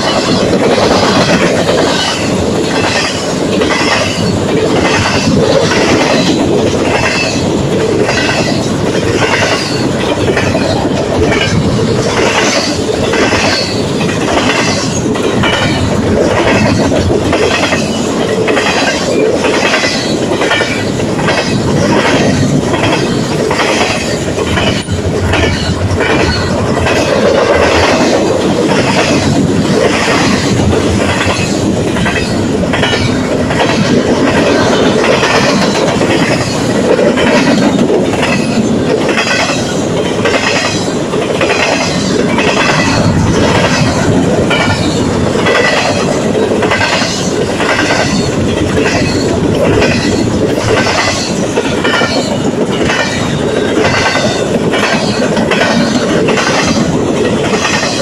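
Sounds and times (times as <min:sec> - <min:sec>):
freight train rumbling: 0:00.0 - 0:58.0
wheels clacking over rail joints: 0:00.0 - 0:58.0.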